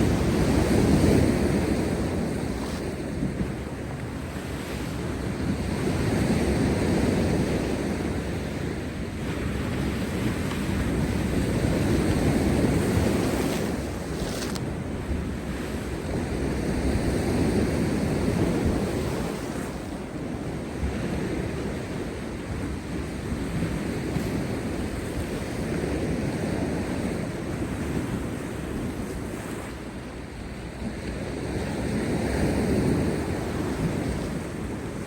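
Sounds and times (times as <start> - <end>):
sea surf breaking over rocks: 0.0 - 35.0
wind buffeting microphone: 0.0 - 35.0.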